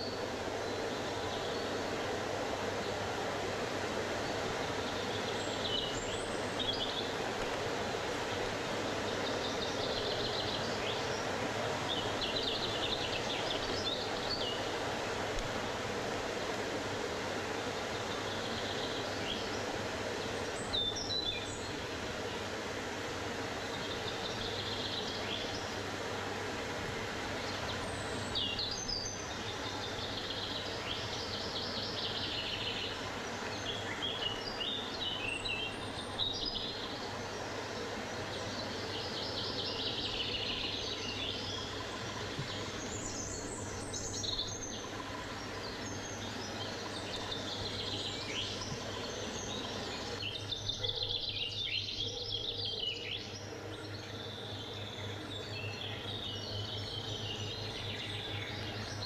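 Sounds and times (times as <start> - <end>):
songbirds singing: 0.0 - 59.0
steady outdoor hiss: 0.0 - 59.0.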